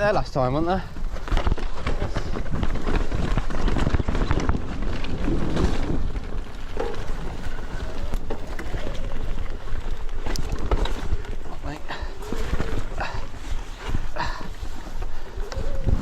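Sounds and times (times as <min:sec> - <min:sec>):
bike knocks and rattles: 0:00.0 - 0:16.0
bike tyres rumbling on trail: 0:00.0 - 0:16.0
wind buffeting microphone: 0:00.0 - 0:16.0.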